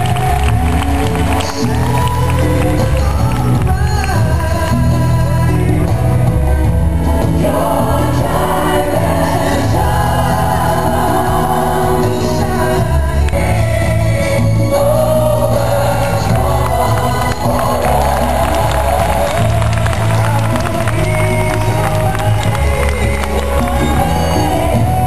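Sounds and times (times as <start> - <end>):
show music with choir singing: 0.0 - 25.0.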